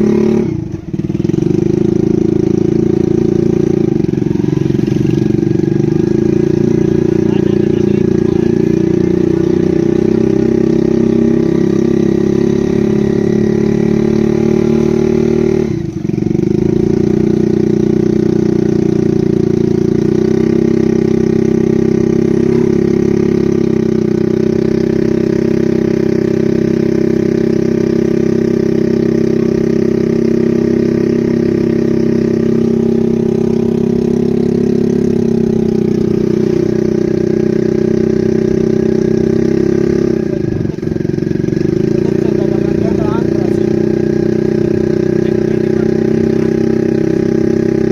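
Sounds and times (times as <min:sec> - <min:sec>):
motor engine running steadily: 0:00.0 - 0:47.9.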